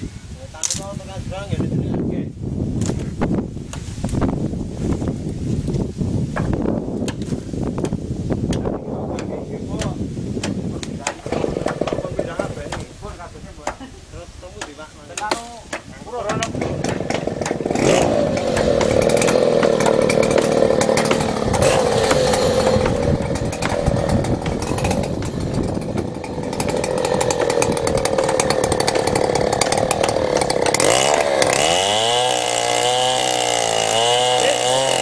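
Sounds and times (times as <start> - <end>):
chainsaw cutting timber: 6.3 - 13.9, 14.5 - 35.0.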